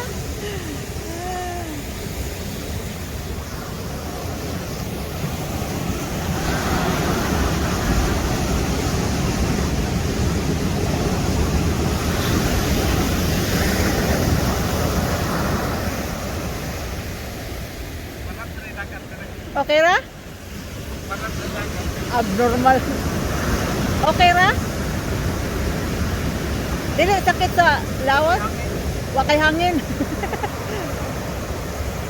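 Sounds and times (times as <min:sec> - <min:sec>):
ocean surf breaking on shore: 0:00.0 - 0:32.0.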